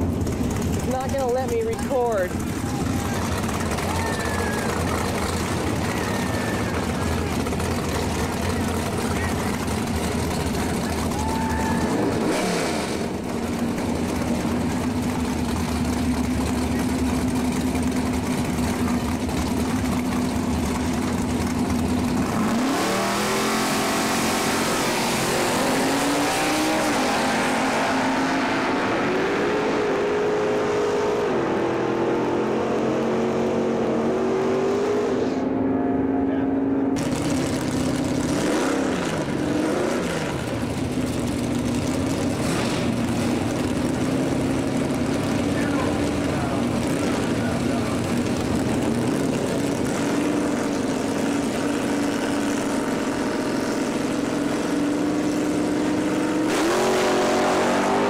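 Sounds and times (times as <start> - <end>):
drag car engine revving: 0.0 - 58.0.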